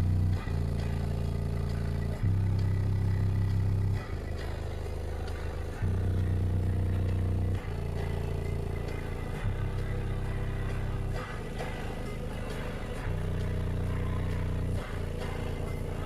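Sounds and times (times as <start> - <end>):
deep sub-bass notes: 0.0 - 16.0.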